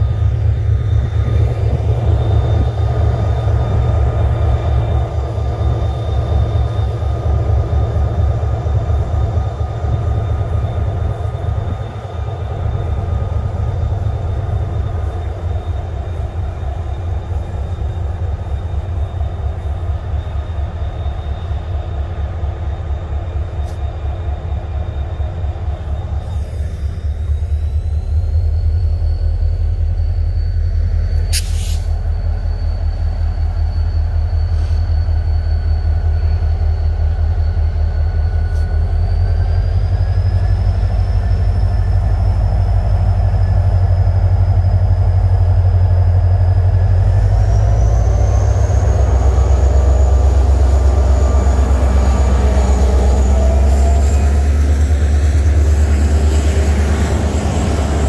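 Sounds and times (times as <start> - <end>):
high whine rising in pitch: 0.0 - 58.0
train rumble: 0.0 - 58.0.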